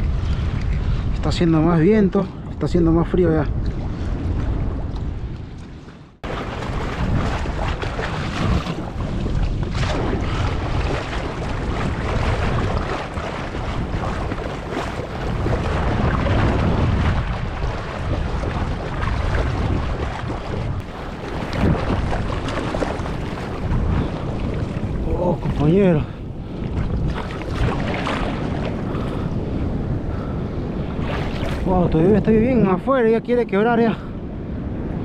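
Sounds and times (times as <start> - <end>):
choppy sea water splashing: 0.0 - 35.0
wind buffeting microphone: 0.0 - 35.0.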